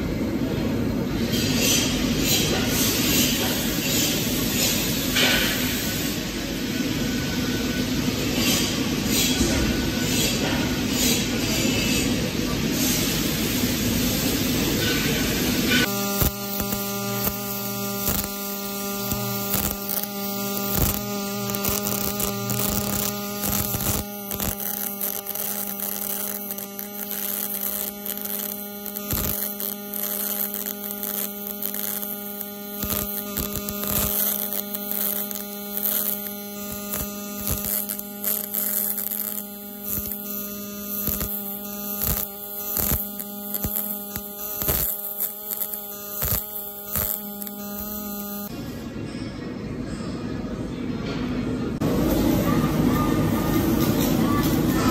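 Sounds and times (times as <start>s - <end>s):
welding arc buzzing and crackling: 1.0s - 48.6s.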